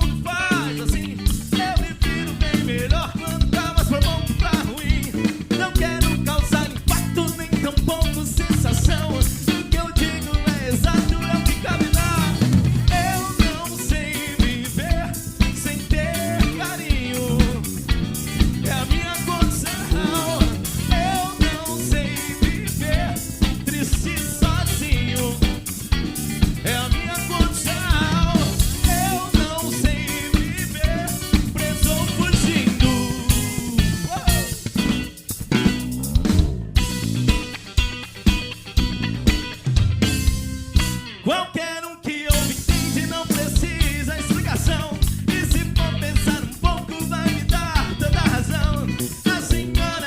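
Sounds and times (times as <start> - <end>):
bass guitar: 0.0 - 50.0
drum kit beat: 0.0 - 50.0
electric guitar: 0.0 - 50.0
rock-pop band playing: 0.0 - 50.0.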